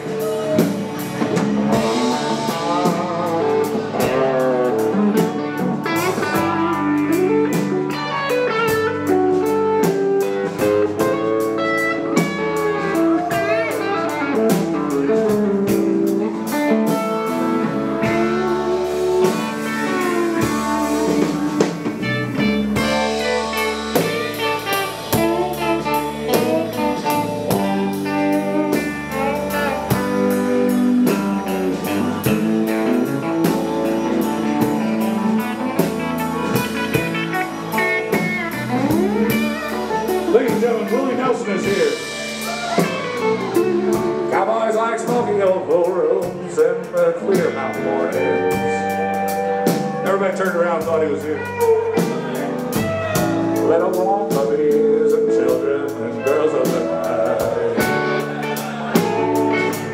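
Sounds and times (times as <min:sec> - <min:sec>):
blues guitar: 0:00.0 - 0:59.9
drum kit beat: 0:00.0 - 0:59.9.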